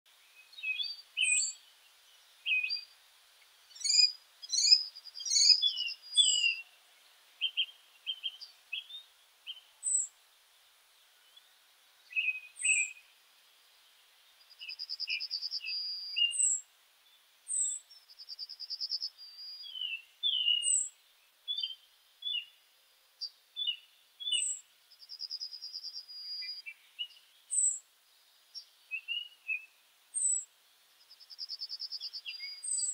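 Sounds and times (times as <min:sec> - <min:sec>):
songbirds singing: 0:00.1 - 0:32.9.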